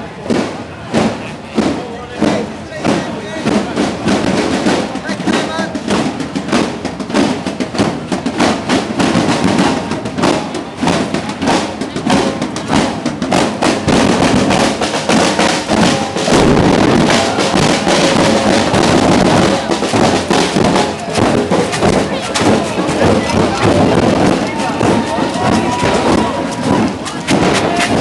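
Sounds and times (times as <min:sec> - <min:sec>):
crowd voices: 0:00.0 - 0:28.0
marching band drums: 0:00.0 - 0:28.0.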